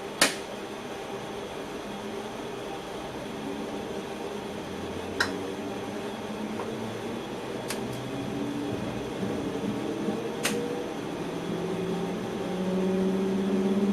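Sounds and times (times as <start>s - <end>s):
train cab hum and hiss: 0.0s - 13.9s.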